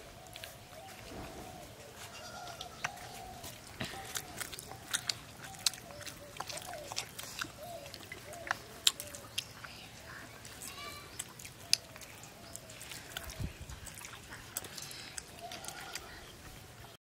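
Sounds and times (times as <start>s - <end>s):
doves cooing: 0.0s - 17.0s
people chewing: 0.0s - 17.0s.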